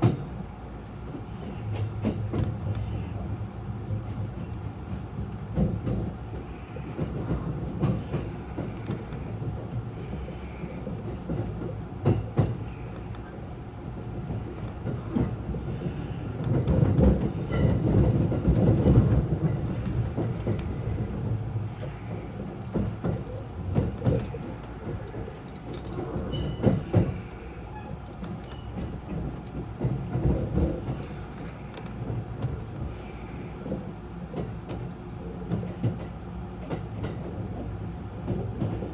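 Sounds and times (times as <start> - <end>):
train interior rumble: 0.0 - 38.9
wheels clicking over rail joints: 3.9 - 38.9.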